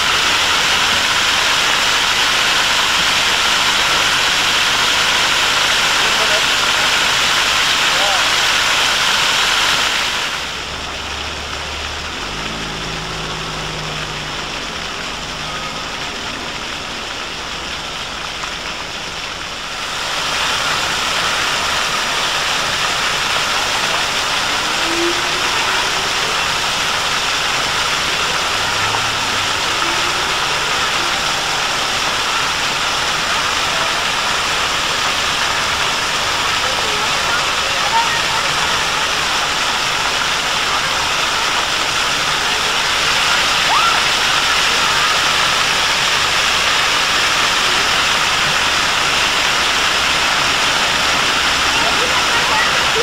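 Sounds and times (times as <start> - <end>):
fountain jets splashing on paving: 0.0 - 53.0.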